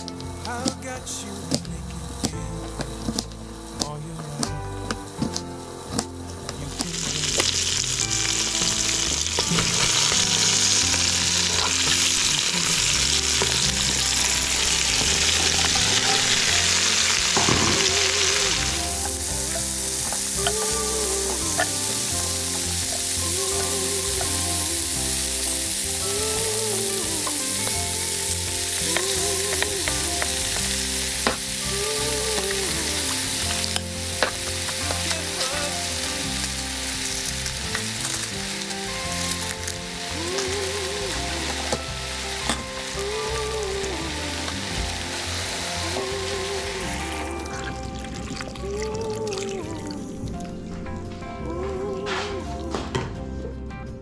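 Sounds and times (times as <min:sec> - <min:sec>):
food sizzling in a pan: 0:00.0 - 0:49.3.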